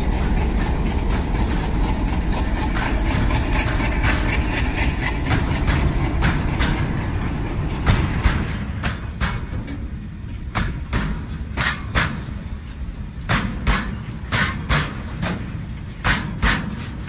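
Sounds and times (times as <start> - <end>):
model train wagons rumbling: 0.0 - 17.0
wheels clicking over rail joints: 0.0 - 17.0.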